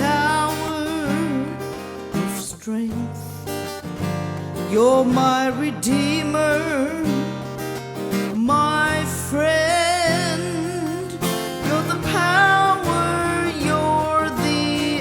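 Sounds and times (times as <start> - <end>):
vocal melody with vibrato: 0.0 - 3.7, 4.6 - 7.7, 8.3 - 15.0
worship song with acoustic guitar: 0.0 - 15.0.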